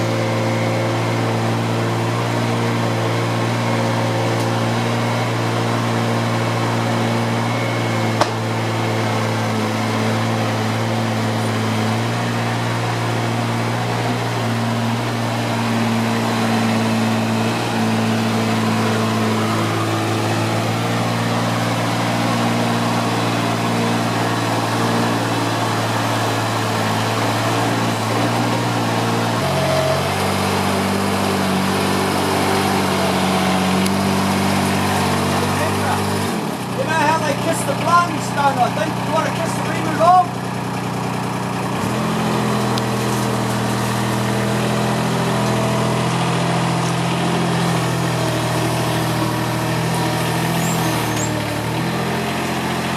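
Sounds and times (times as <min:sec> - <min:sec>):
engine running steadily: 0:00.0 - 0:52.9.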